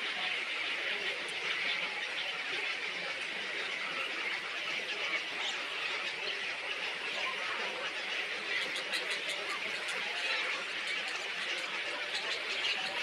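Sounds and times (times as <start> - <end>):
small birds chirping chorus: 0.0 - 13.0.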